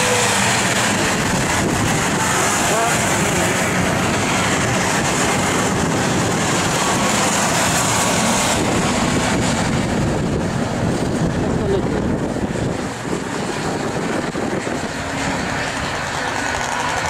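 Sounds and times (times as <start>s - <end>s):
snowmobile engines racing: 0.0s - 17.0s.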